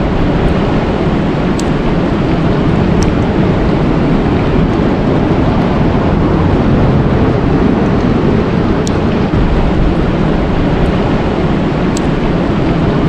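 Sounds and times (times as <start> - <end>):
outdoor nature rushing noise: 0.0 - 13.0.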